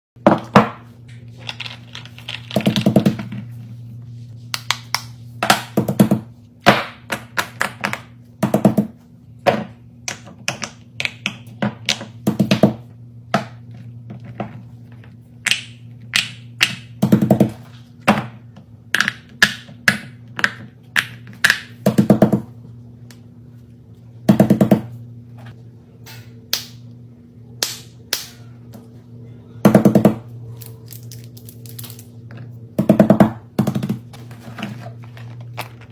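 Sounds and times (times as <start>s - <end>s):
steady low hum: 0.2s - 35.9s.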